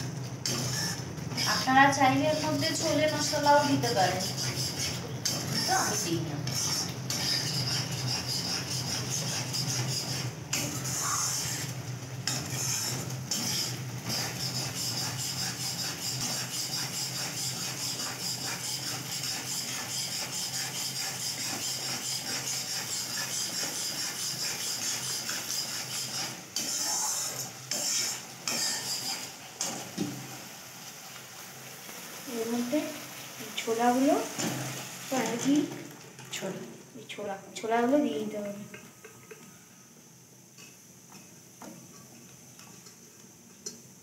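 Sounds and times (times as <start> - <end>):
spatula scraping pan: 0.0 - 35.7
frying sizzle: 0.0 - 44.0.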